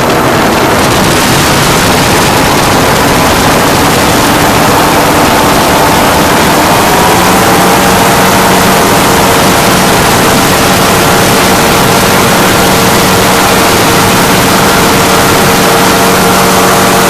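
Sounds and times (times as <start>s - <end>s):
light aircraft engine and propeller: 0.0s - 17.0s
wind rush: 0.0s - 17.0s.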